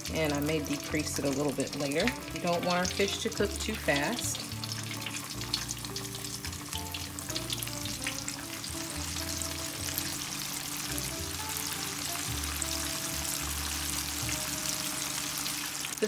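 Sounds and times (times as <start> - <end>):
background music with bass: 0.0 - 15.4
fish frying in oil: 0.0 - 16.0.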